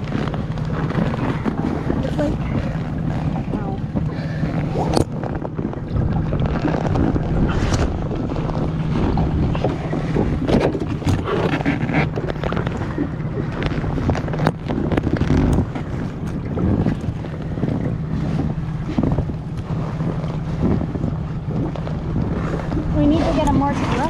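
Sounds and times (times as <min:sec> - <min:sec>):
boat engine humming: 0:00.0 - 0:24.0
wind buffeting microphone: 0:00.0 - 0:24.0.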